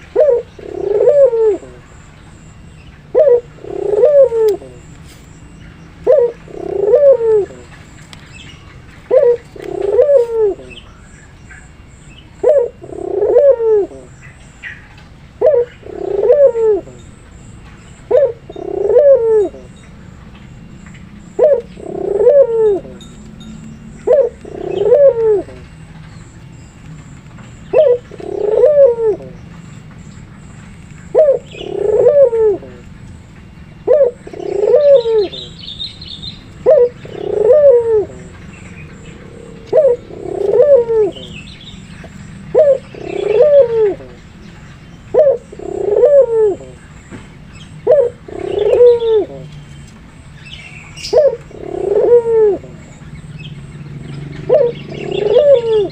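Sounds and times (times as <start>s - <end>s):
small birds chirping: 0.0s - 55.9s
turtle dove cooing: 0.0s - 55.9s.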